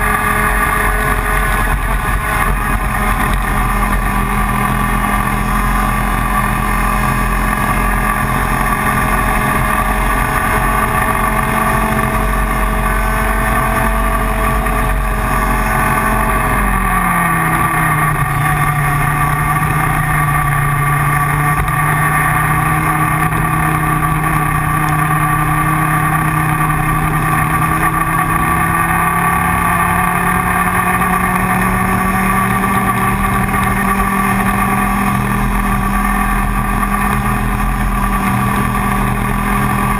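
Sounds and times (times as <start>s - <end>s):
kart engine revving high: 0.0s - 39.9s.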